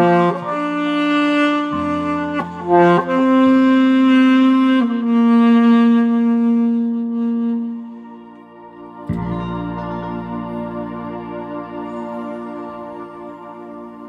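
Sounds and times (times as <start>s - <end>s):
recorded backing accompaniment: 0.0s - 14.0s
saxophone playing slow melody: 0.0s - 14.0s.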